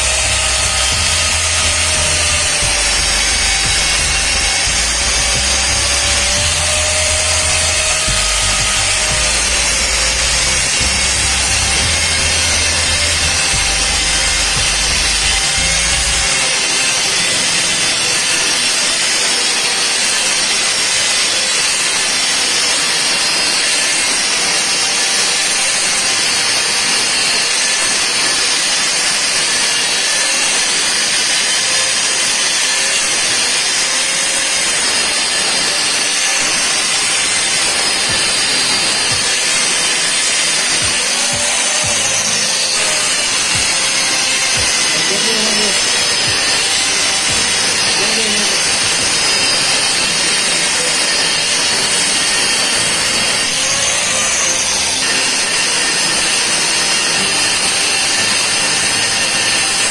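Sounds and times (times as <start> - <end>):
angle grinder cutting metal pipe: 0.0 - 59.9.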